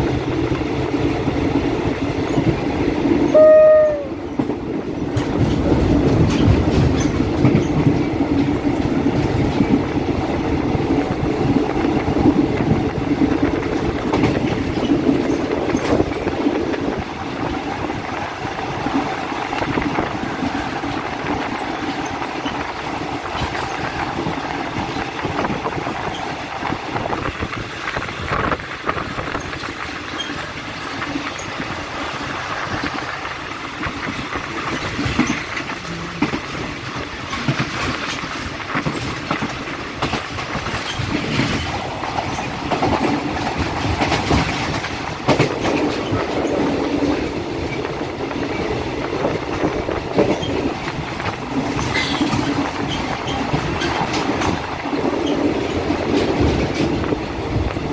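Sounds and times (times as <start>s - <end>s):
train rumble: 0.0s - 57.9s
train wheels clacking: 0.0s - 57.9s.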